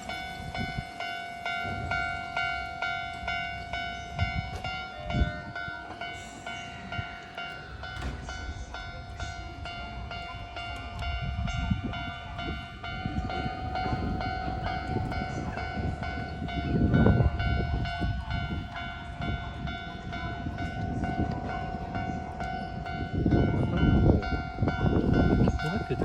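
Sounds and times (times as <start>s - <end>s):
level crossing bell ringing: 0.0s - 26.0s
train rumbling and clattering: 0.0s - 26.0s.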